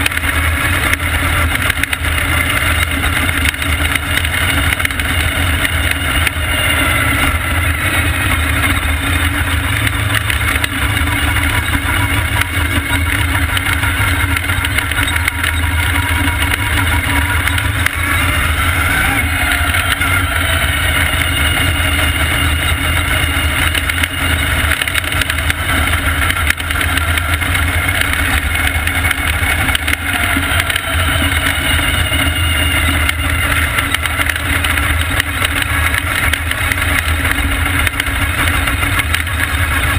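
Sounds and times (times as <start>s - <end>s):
race car engine at speed: 0.0s - 39.9s.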